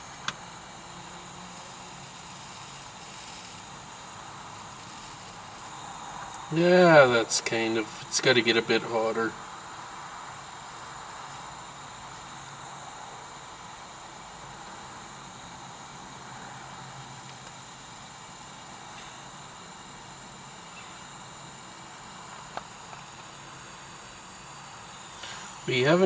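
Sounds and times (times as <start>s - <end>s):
soldering gun hissing: 0.0s - 26.0s.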